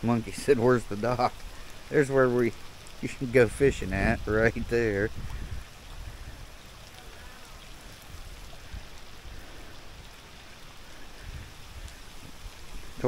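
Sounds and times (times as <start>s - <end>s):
steady rain on pavement and water: 0.0s - 13.0s.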